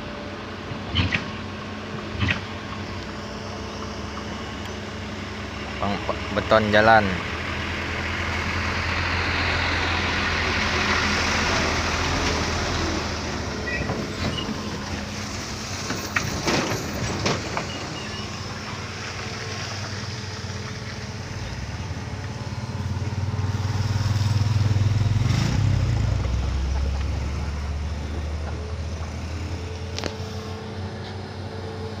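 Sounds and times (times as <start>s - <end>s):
road noise: 0.0s - 32.0s
vehicle engine running: 0.0s - 32.0s.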